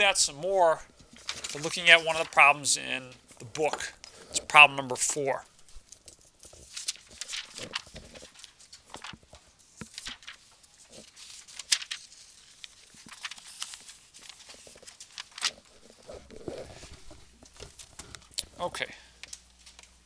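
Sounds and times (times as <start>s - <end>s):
book pages rustling: 0.9s - 2.7s, 3.6s - 18.6s.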